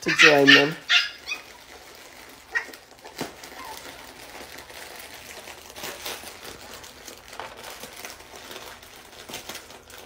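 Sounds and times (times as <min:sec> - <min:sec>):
plush toy crinkling: 0:00.0 - 0:10.0.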